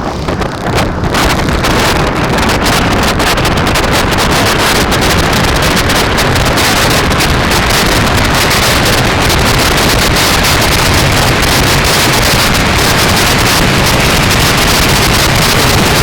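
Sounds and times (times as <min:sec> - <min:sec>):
wind roaring over microphone: 0:00.0 - 0:16.0.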